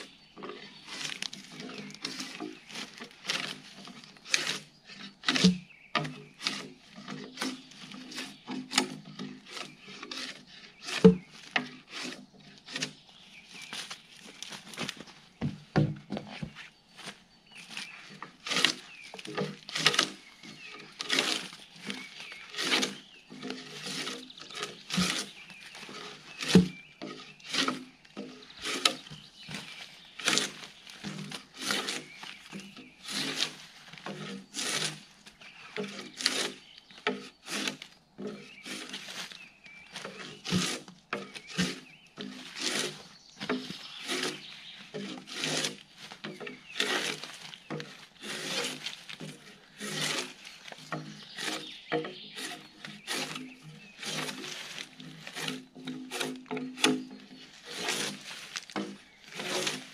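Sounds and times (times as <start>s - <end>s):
drawknife scraping bark: 0.0s - 14.0s, 18.1s - 59.9s.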